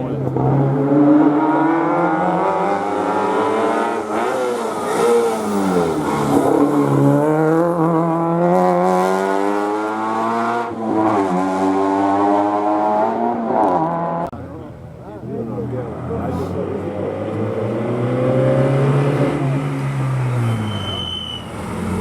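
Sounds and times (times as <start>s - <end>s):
rally car engine revving: 0.0s - 14.3s, 15.3s - 22.0s.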